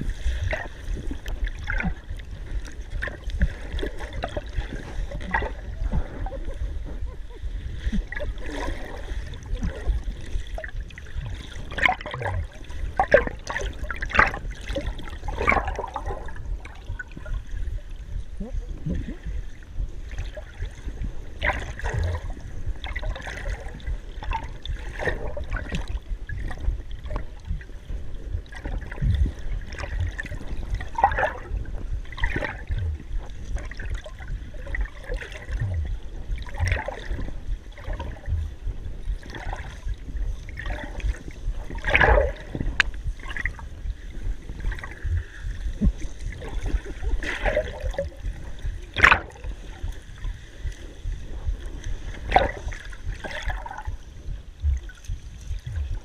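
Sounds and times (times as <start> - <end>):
muffled underwater gurgling: 0.0 - 56.0
steady low rumble: 0.0 - 56.0.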